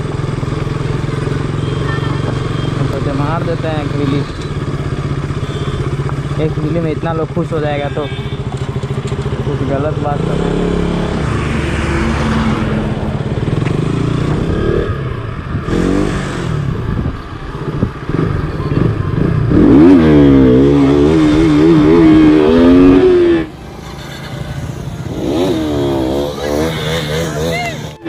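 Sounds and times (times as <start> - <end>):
motorcycle engine revving: 0.0 - 28.0
passing motorcycle: 0.0 - 28.0.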